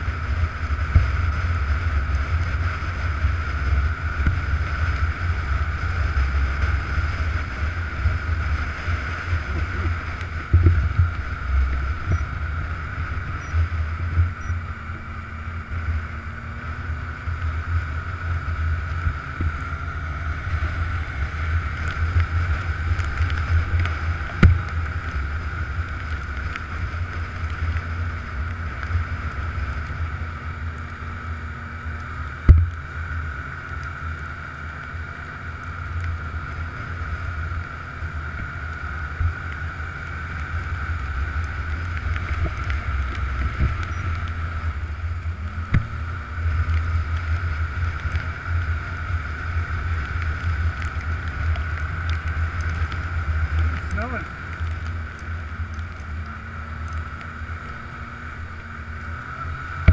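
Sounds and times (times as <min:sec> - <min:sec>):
snowmobile engine drone: 0:00.0 - 0:59.9.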